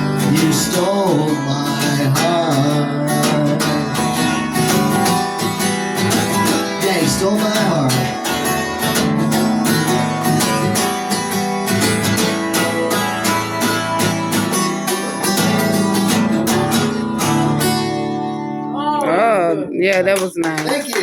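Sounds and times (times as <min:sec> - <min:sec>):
acoustic guitar strumming: 0:00.0 - 0:20.4.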